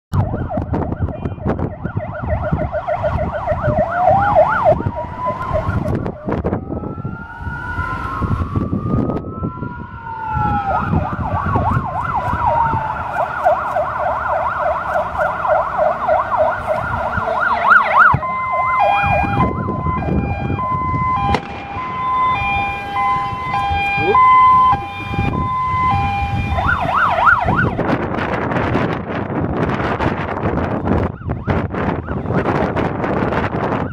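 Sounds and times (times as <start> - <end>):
fast warbling siren: 0.1 - 28.1, 30.6 - 33.9
rising and falling siren wail: 0.1 - 33.9
two-tone alternating siren: 0.1 - 33.9
wind buffeting microphone: 0.1 - 33.9.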